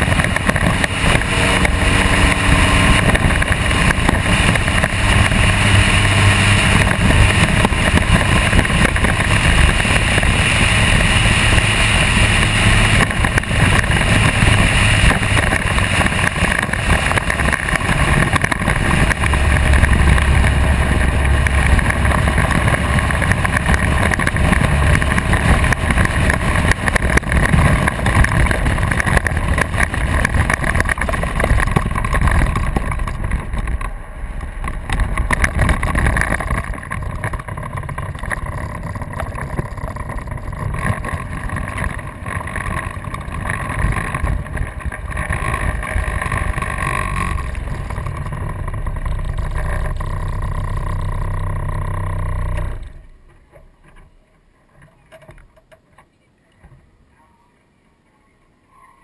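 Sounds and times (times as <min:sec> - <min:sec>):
race car engine running: 0:00.0 - 0:53.8.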